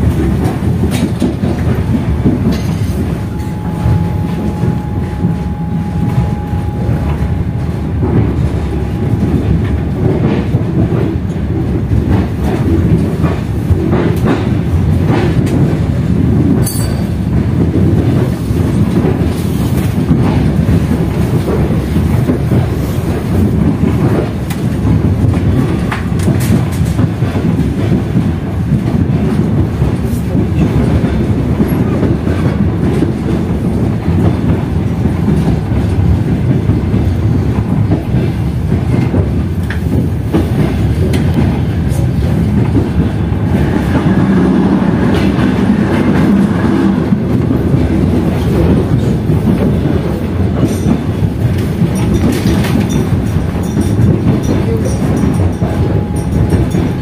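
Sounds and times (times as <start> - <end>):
train carriage rumbling: 0.0 - 57.0
wheels clicking over rail joints: 6.9 - 57.0.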